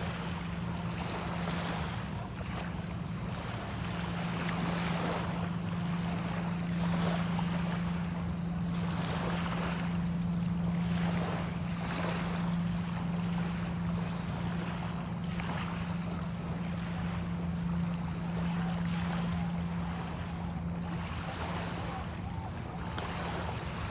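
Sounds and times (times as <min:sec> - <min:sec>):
small waves washing in: 0:00.0 - 0:23.9
steady low hum: 0:00.0 - 0:23.9
wind: 0:00.0 - 0:23.9.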